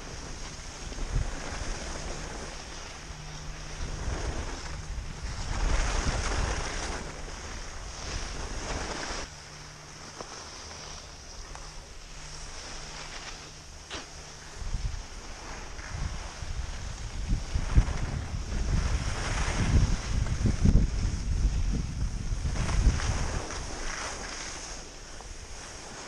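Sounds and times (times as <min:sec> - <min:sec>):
wind buffeting microphone: 0:00.0 - 0:09.3, 0:10.8 - 0:26.0
skis sliding over snow: 0:00.0 - 0:26.0.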